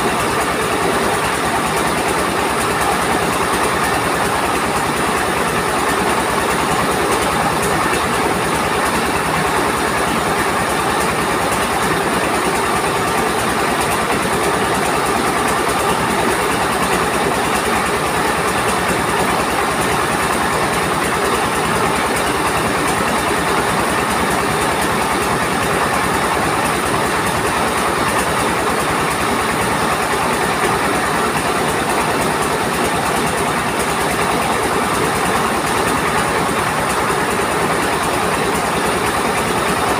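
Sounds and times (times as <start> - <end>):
diesel engine driving rice mill: 0.0 - 39.9.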